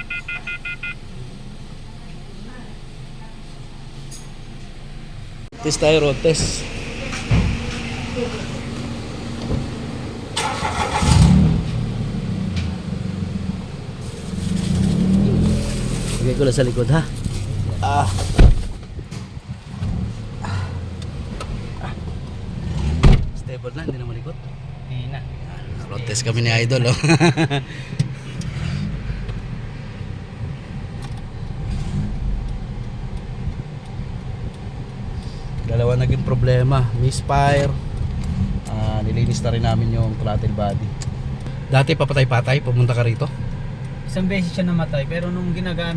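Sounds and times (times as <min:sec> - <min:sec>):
road rumble: 0:00.0 - 0:45.9
car engine revving: 0:04.9 - 0:45.9.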